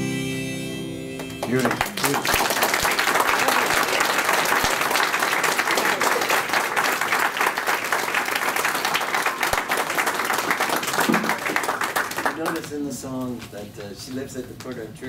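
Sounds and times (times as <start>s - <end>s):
audience applauding: 1.2s - 13.5s.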